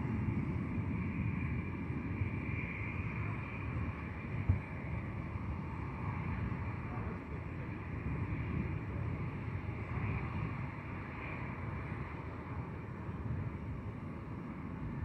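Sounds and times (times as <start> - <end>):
distant jet engines humming: 0.0 - 15.0
wind on microphone: 0.0 - 15.0.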